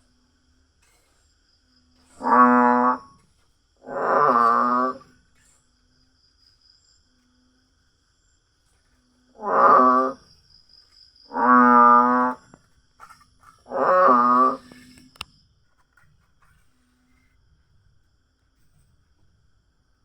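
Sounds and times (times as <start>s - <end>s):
faint high insect tone: 0.0s - 20.0s.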